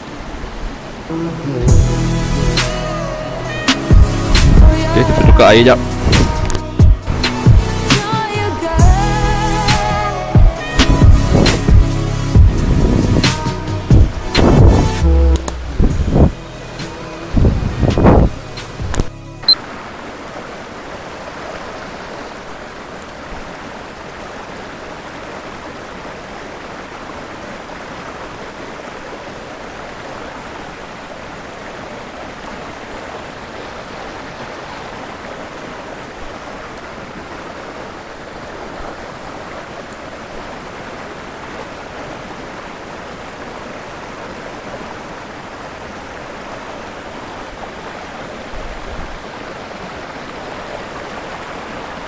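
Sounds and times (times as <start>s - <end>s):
stream water running through rapids: 0.0s - 52.0s.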